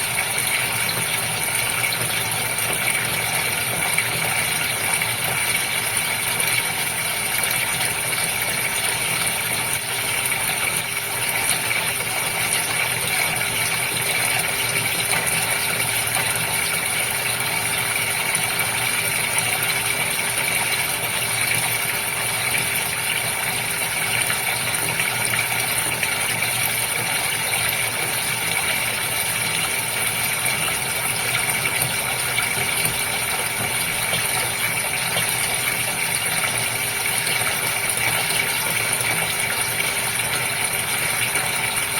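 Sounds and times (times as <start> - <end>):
aquarium pump humming: 0.0 - 41.9
water bubbling and splashing: 0.0 - 41.9.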